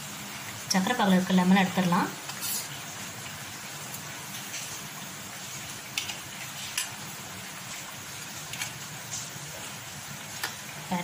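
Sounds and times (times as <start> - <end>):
dough sizzling in hot oil: 0.0 - 11.0.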